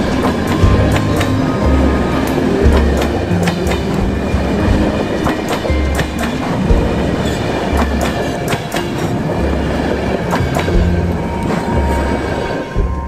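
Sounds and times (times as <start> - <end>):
train rumbling past: 0.0 - 13.0
wheels clicking over rail joints: 0.0 - 13.0.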